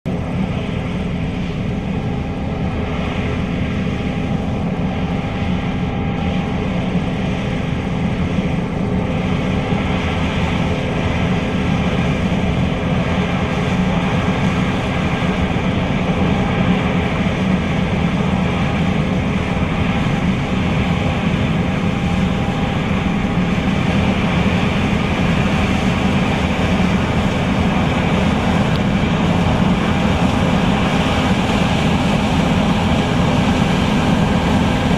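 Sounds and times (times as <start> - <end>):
combine harvester droning: 0.1 - 34.9.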